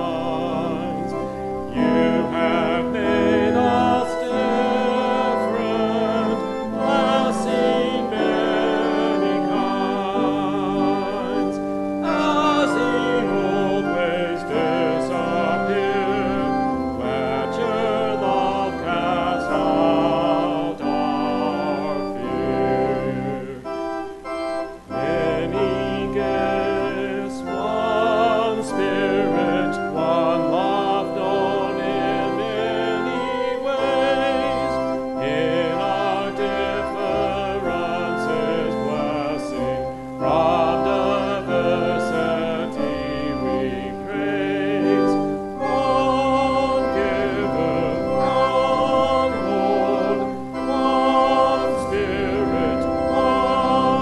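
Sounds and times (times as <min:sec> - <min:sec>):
church organ: 0:00.0 - 0:54.0
congregation singing a hymn: 0:00.0 - 0:54.0.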